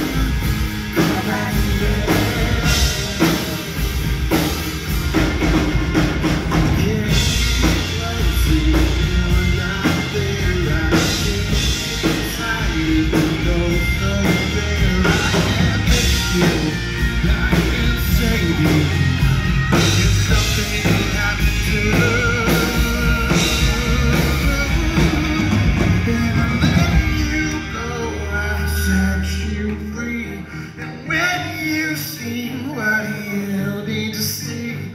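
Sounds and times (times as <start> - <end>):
drum kit beat: 0.0 - 28.9
electric guitar: 0.0 - 34.9
man singing: 0.0 - 34.9.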